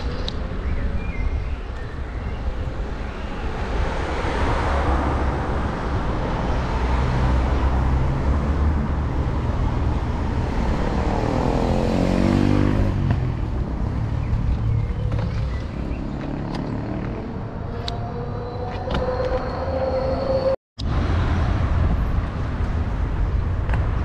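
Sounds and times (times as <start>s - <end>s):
cars passing close by: 2.6s - 24.0s.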